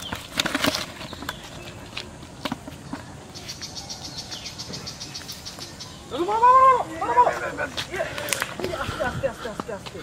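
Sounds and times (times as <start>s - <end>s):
insect chirping: 0.0s - 9.4s.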